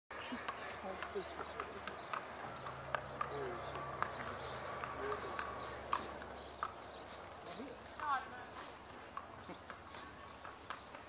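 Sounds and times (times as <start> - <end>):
hooves clopping on pavement: 0.1 - 11.0
low falling bird calls: 0.1 - 11.0.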